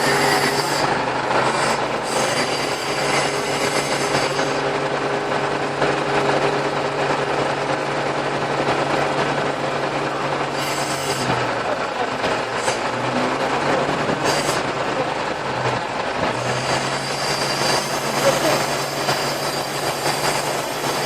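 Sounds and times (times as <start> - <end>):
diesel compressor engine running: 0.0 - 21.0.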